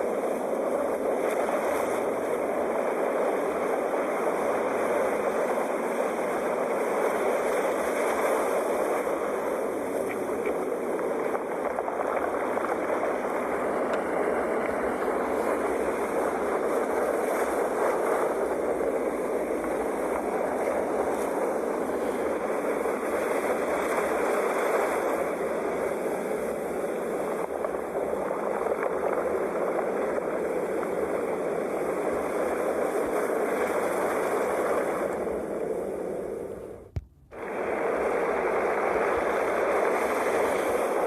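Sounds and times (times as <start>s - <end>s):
surf rushing on shore: 0.0s - 41.0s.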